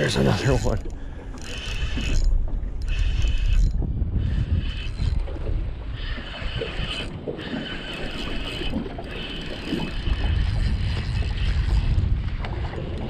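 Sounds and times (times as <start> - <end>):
fishing reel gears whirring: 0.0 - 12.2
wind rumbling on microphone: 0.0 - 13.0.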